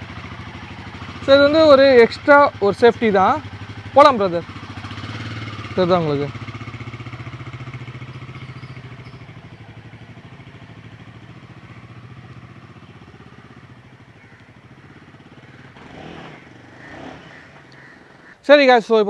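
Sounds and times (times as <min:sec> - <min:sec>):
motorcycle engine riding away: 0:00.0 - 0:18.5.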